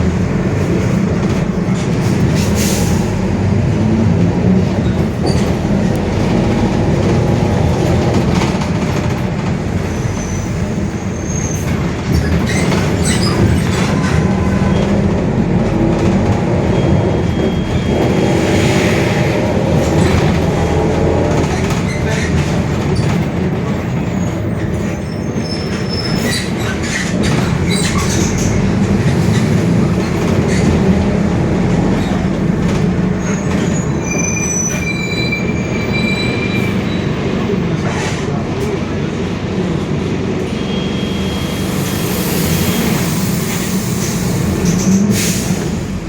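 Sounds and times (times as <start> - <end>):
bus diesel engine rumble: 0.0 - 46.0.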